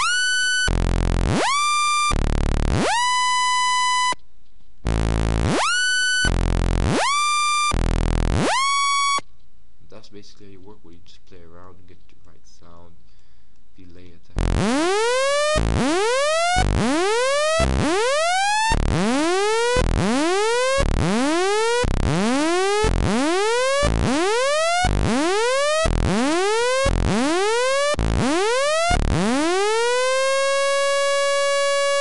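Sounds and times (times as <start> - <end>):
buzzy synth lead swooping: 0.0 - 4.2, 4.9 - 9.2, 14.4 - 32.0.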